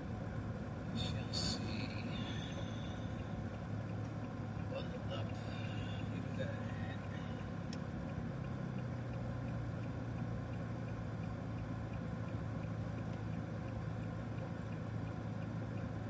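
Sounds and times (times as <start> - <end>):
car engine hum from inside: 0.0 - 16.0
faint regular ticking: 0.3 - 16.0.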